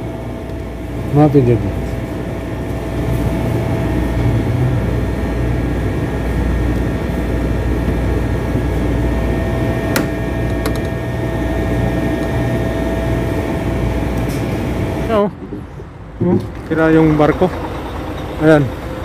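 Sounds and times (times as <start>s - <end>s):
machine hum with thin whine: 0.0s - 19.0s.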